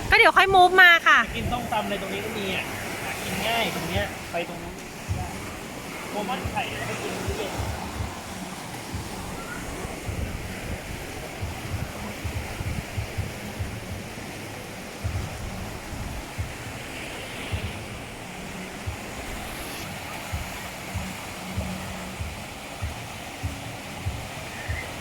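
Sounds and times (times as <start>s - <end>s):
water washing and splashing: 0.0s - 25.0s
wind rumbling on microphone: 0.0s - 25.0s.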